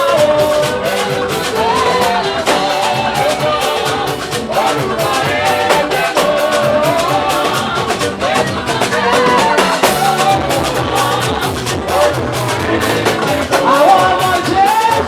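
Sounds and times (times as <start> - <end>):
drum kit beat: 0.0 - 15.0
live band playing upbeat song: 0.0 - 15.0.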